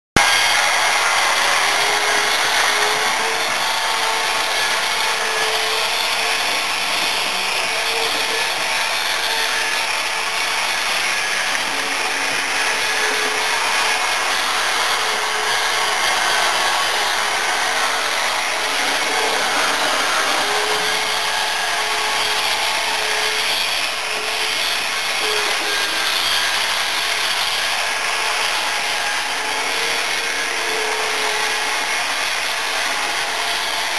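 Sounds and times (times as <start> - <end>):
metal wheels rolling on rails: 0.2 - 33.9
model locomotive motors whirring: 0.2 - 33.9.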